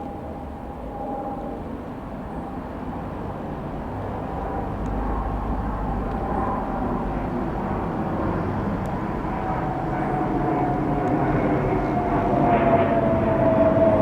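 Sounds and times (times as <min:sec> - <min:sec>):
jet passing overhead: 0:00.0 - 0:14.0.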